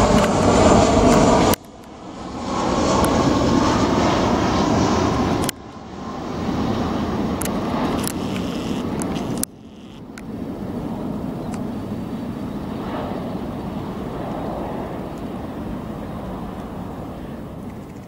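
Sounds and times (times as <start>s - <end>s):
airliner engine rumble: 0.0s - 18.0s.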